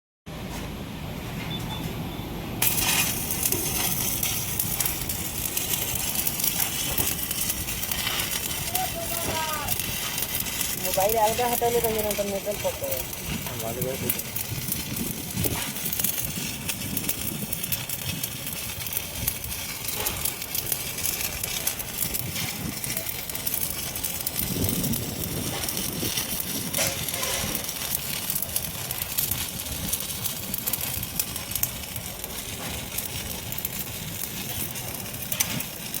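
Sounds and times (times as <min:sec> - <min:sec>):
welding arc crackling: 0:02.6 - 0:36.0.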